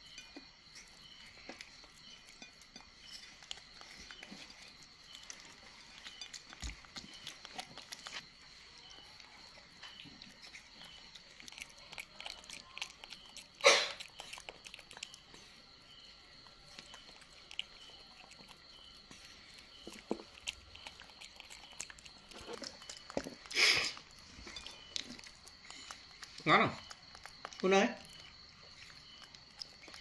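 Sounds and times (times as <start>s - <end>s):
monkey chewing with wet smacking: 0.0s - 30.0s.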